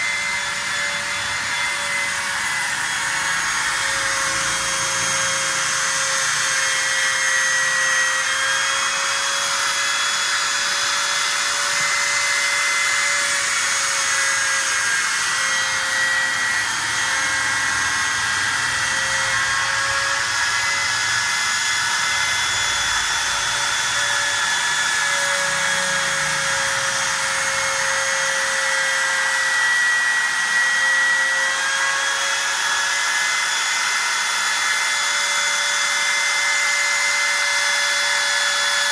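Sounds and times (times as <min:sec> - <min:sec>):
cutting machine whine with hiss: 0:00.0 - 0:38.9.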